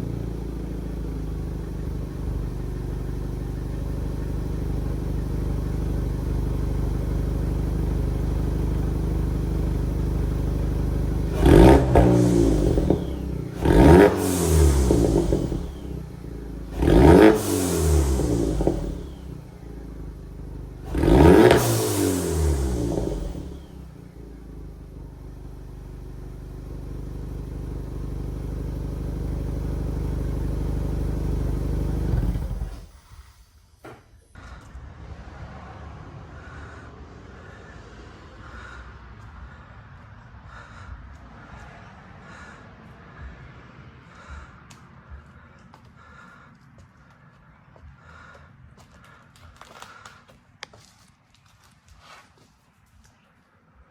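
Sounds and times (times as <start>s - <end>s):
car engine idling and revving: 0.0s - 52.2s.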